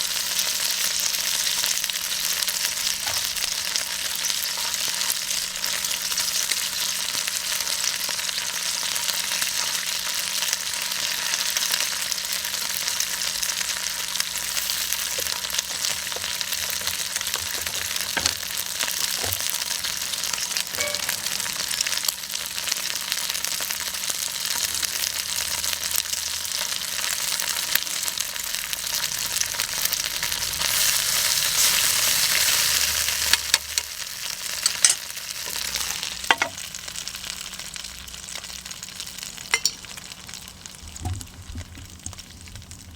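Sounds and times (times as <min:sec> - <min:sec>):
meat sizzling in a frying pan: 0:00.0 - 0:42.9.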